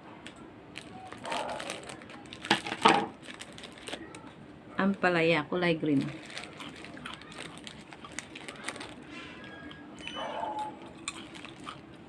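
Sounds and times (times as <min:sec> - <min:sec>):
vegetable chips crackling: 0:00.7 - 0:04.3, 0:05.8 - 0:12.0.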